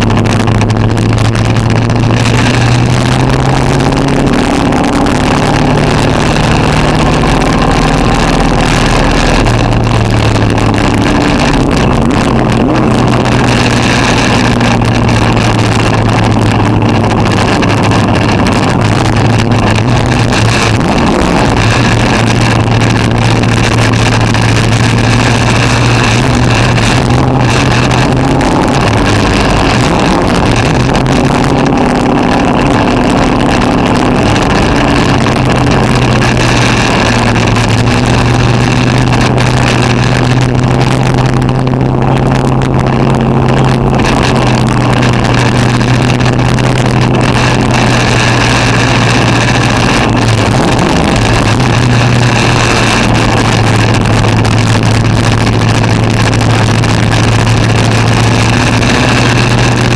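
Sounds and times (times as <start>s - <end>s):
race car engine: 0.0s - 59.9s
wind and road noise: 0.0s - 59.9s.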